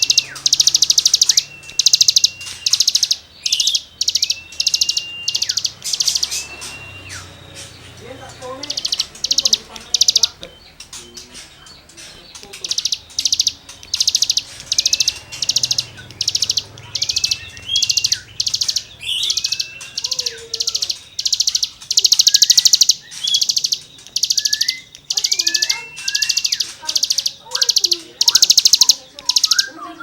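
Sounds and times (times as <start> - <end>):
thin rising bird whistles: 0.0 - 7.7, 12.8 - 30.0
bird buzzy rasping song: 0.0 - 30.0.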